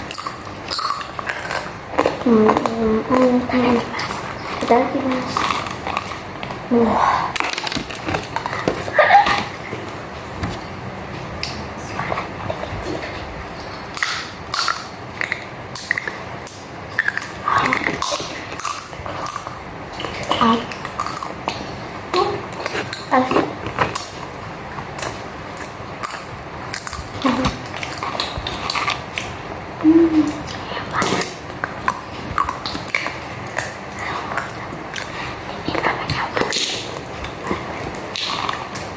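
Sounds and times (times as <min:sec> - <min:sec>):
chewing crunchy snack: 0:00.0 - 0:10.0, 0:11.4 - 0:21.8, 0:22.4 - 0:29.4, 0:30.2 - 0:38.9
eating sounds: 0:00.0 - 0:38.9.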